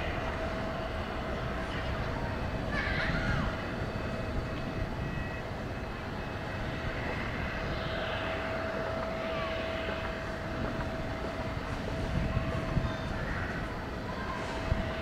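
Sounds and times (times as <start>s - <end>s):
faint jet whine: 0.0s - 15.0s
jet engine rumble: 0.0s - 15.0s.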